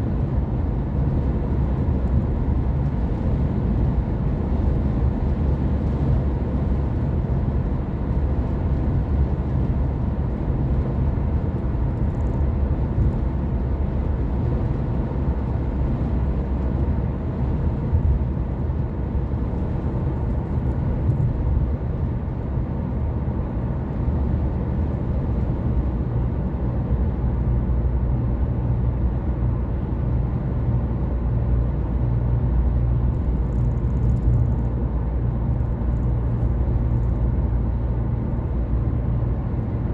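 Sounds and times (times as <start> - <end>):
car engine hum: 0.0 - 39.9
road and tyre rumble: 0.0 - 39.9.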